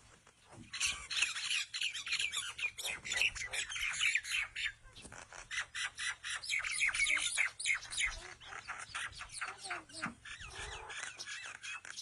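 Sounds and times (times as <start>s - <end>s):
birds chirping rapidly: 0.2s - 12.0s.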